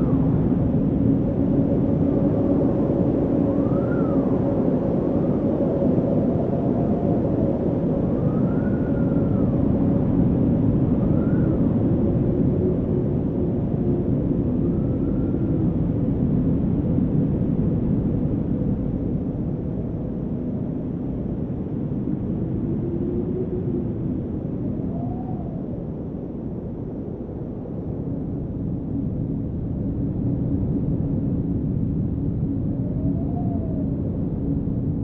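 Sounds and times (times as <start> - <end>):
wind blowing on microphone: 0.0 - 35.0.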